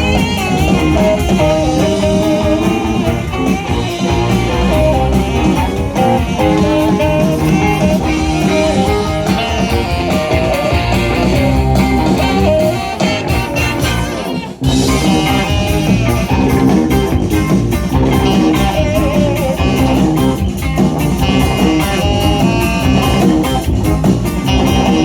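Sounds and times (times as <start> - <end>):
rock band instrumental: 0.0 - 25.0.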